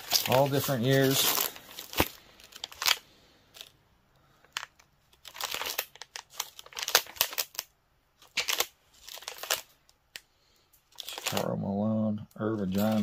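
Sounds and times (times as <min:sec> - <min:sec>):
plastic pages crinkling: 0:00.0 - 0:03.8, 0:04.4 - 0:10.2, 0:10.9 - 0:11.6, 0:12.4 - 0:13.0.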